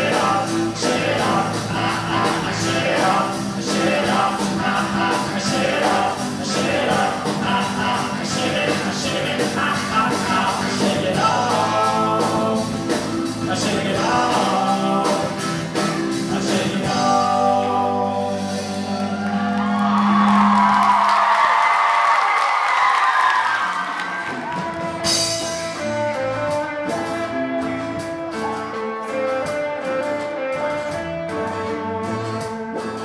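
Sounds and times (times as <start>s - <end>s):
live rock band playing: 0.0s - 21.0s, 23.6s - 33.0s.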